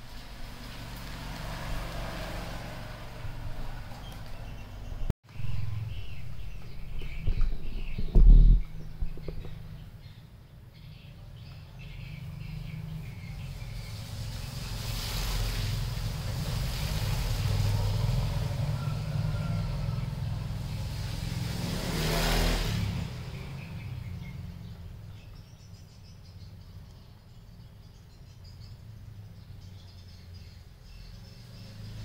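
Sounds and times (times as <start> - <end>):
passing vehicle rumble: 0.0 - 32.0.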